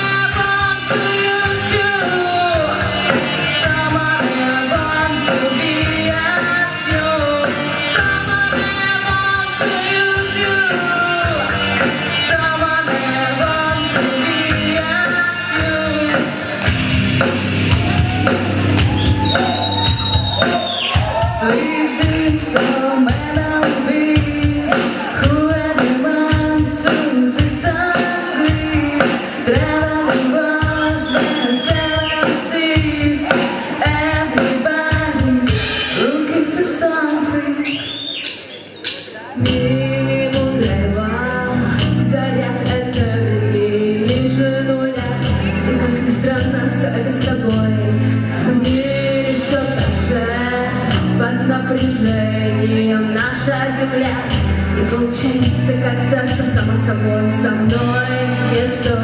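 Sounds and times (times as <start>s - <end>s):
person singing: 0.0s - 38.1s, 39.1s - 59.0s
live rock band playing: 0.0s - 59.0s
steady drum beat: 0.0s - 59.0s.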